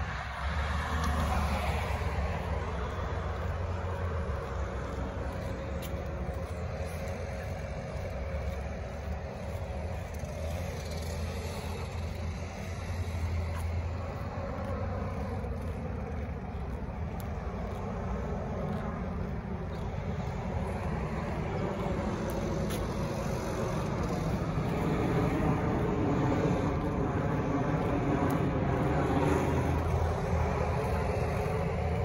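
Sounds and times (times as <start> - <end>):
motor vehicles rumbling: 0.0 - 32.0
road noise: 0.0 - 32.0.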